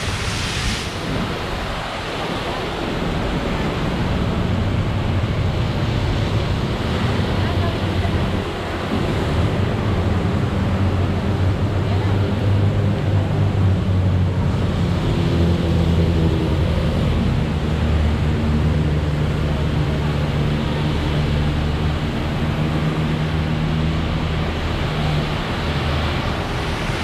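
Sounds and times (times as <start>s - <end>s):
heavy rain falling: 0.0s - 13.3s, 16.0s - 27.0s.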